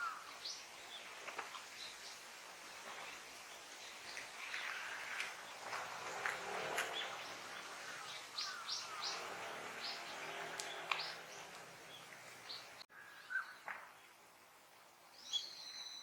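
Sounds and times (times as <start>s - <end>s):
small birds chirping: 0.0s - 14.2s, 15.1s - 16.0s
outdoor hiss: 0.0s - 16.0s.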